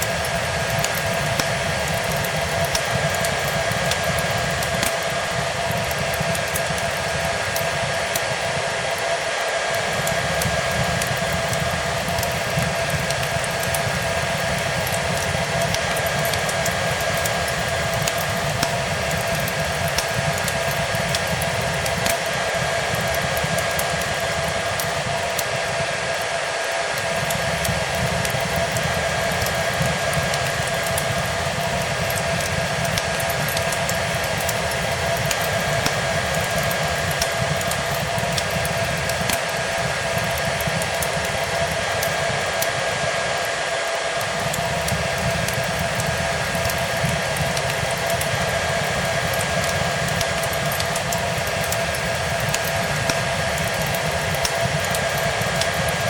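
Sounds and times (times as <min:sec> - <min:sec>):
hair dryer running: 0:00.0 - 0:56.0
wood fire crackling: 0:00.0 - 0:56.0.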